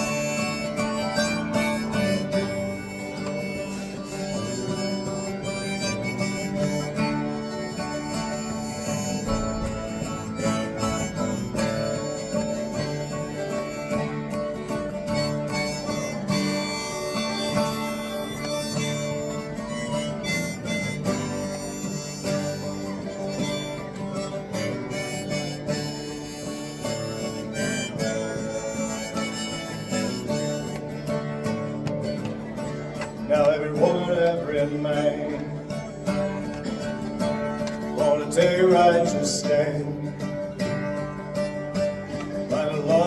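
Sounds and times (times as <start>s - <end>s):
harmonica melody: 0.0s - 43.0s
strummed acoustic guitar: 0.0s - 43.0s.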